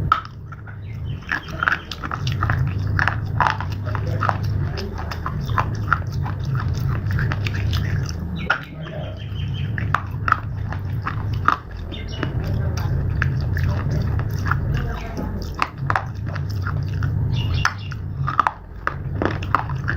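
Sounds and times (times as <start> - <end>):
crunching and chewing slate: 0.0 - 19.9
steady low hum: 0.0 - 19.9.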